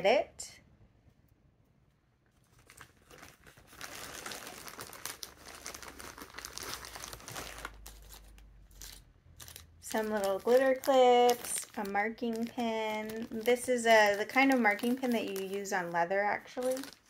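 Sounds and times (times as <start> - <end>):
plastic packaging crinkling: 2.3 - 17.0.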